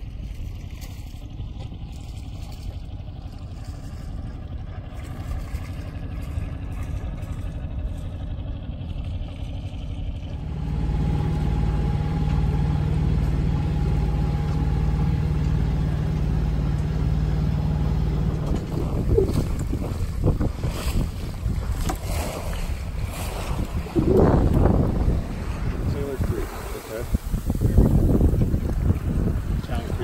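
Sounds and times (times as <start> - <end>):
boat engine throbbing hum: 0.0 - 30.0.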